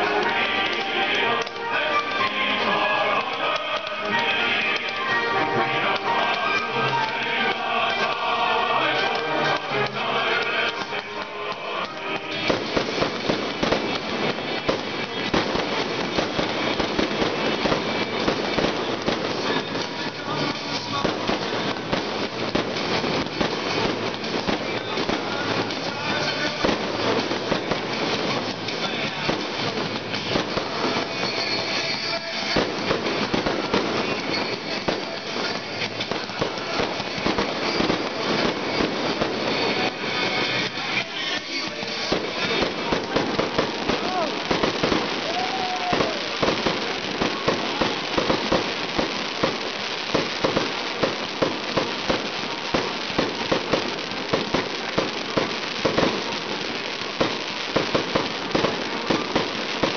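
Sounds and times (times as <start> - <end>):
fireworks bangs and crackles: 0.0 - 59.9
music playing: 0.0 - 59.9.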